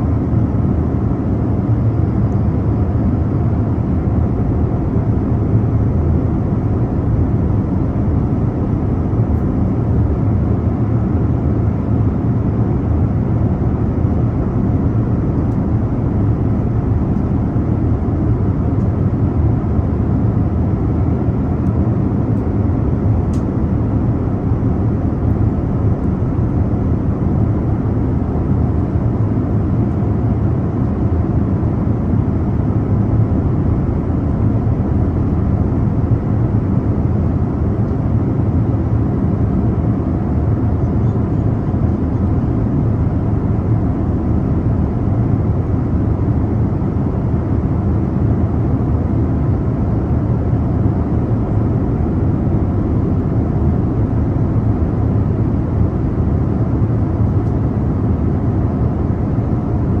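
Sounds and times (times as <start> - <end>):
airliner cabin rumble: 0.0 - 60.0.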